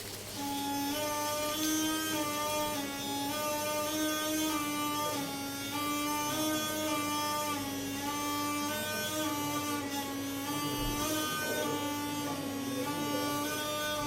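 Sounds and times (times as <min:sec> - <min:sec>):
buzzy reed pipe melody: 0:00.0 - 0:14.0.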